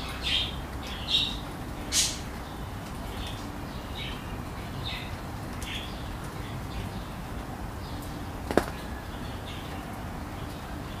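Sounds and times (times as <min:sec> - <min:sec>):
low city rumble: 0:00.0 - 0:11.0.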